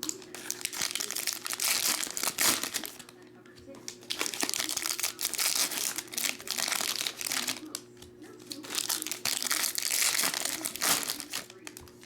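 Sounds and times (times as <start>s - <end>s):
cards being handled: 0.0s - 12.0s
foil wrappers crinkling: 0.0s - 12.0s.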